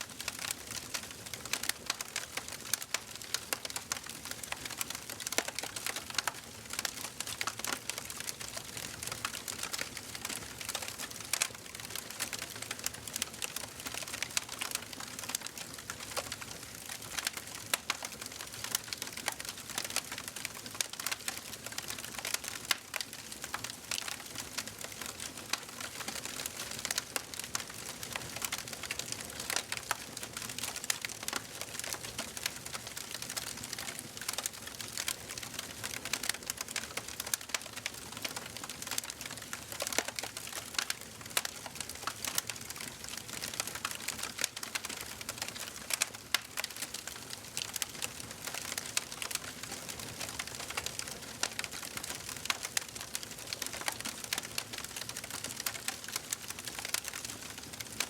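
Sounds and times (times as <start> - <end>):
wood fire crackling and popping: 0.1 - 58.0.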